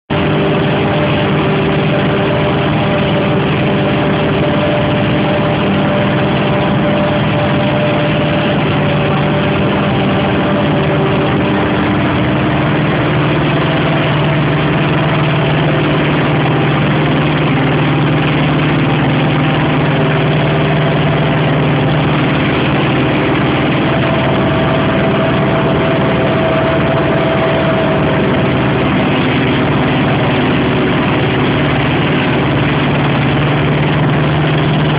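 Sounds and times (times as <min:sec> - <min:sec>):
forage harvester engine drone: 0:00.0 - 0:34.9.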